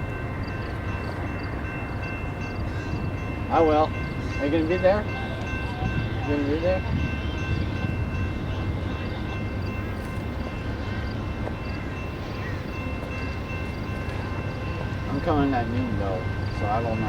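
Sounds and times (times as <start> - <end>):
freight train rumbling by: 0.0 - 17.0.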